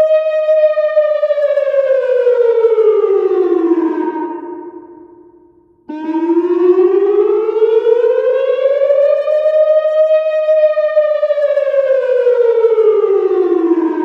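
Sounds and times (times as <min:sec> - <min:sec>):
warning siren wailing: 0:00.0 - 0:14.0.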